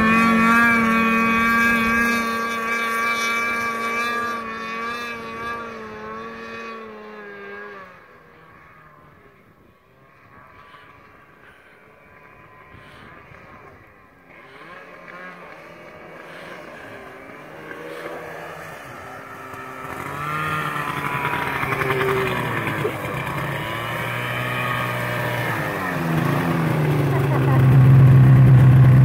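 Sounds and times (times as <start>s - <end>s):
snowmobile engine: 0.0s - 29.0s.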